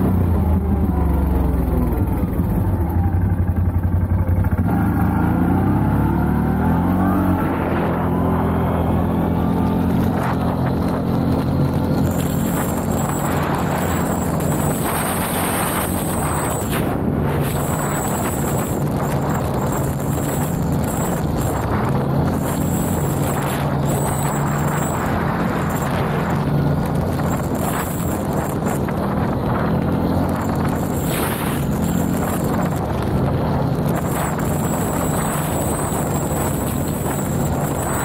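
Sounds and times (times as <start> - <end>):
quad engine running: 0.0 - 38.0
wind rush on microphone: 5.6 - 38.0.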